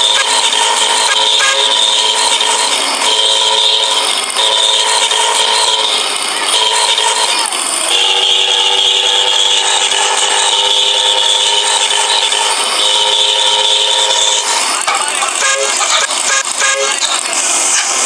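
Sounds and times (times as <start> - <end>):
steady drone of held tones: 0.0 - 18.0.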